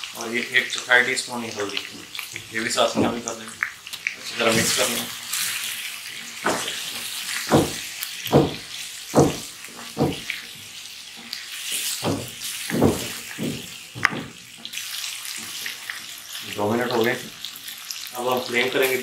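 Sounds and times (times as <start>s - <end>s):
chicken sizzling in a pan: 0.0s - 19.0s.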